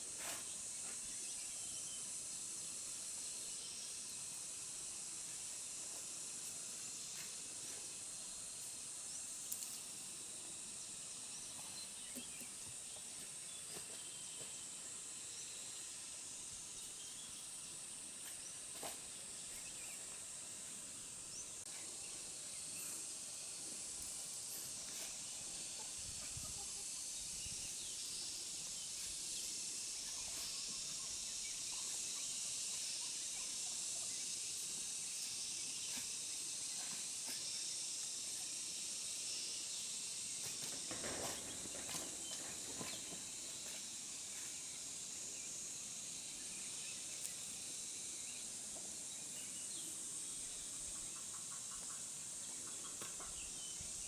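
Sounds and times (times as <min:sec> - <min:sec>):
outdoor ambience hiss: 0:00.0 - 0:54.0.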